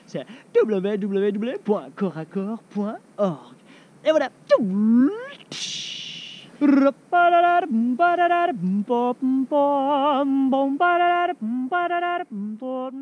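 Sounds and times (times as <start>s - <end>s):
person singing wordless melody: 0.0s - 13.0s.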